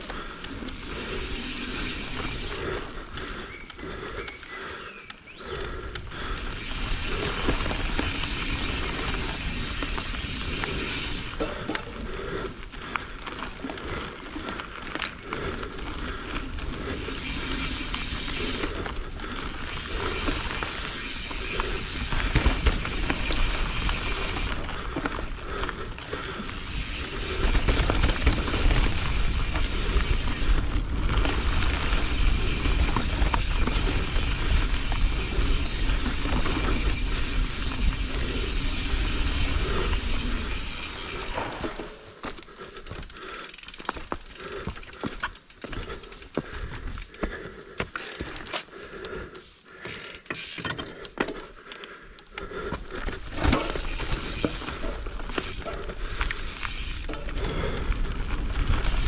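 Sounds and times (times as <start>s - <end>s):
bike chain and frame rattling: 0.0s - 59.0s
bike tyres rolling over dirt: 0.0s - 59.0s.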